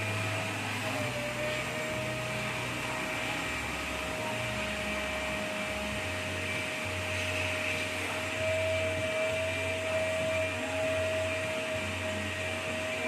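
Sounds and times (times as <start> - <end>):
machine hum with whine: 0.0 - 13.0.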